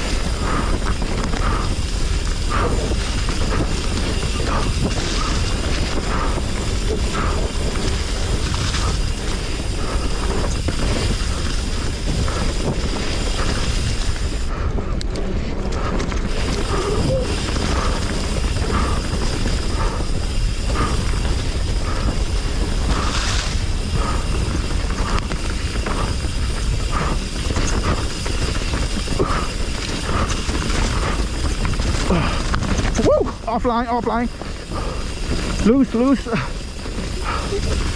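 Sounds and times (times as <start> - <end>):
wind on microphone: 0.0 - 33.5
bike rattling over rough ground: 0.0 - 37.9.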